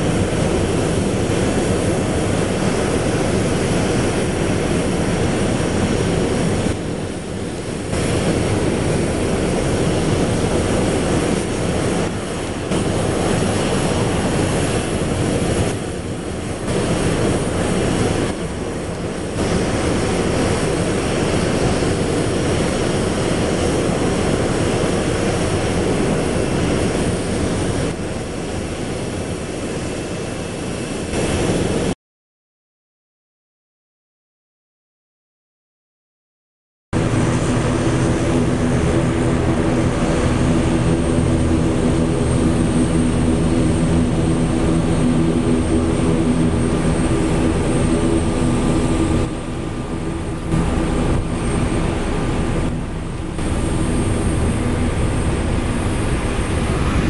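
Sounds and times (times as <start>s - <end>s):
jet engines running: 0.0s - 32.0s, 37.0s - 57.0s.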